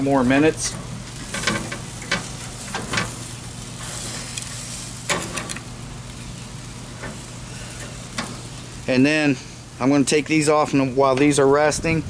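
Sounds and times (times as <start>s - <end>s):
ribs sizzling on grill: 0.0s - 12.0s.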